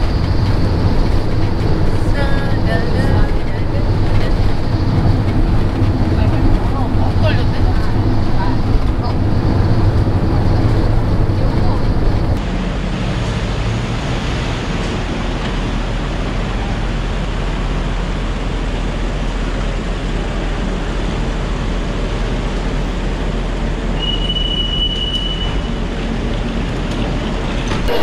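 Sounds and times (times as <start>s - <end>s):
van road and engine rumble: 0.0s - 28.0s.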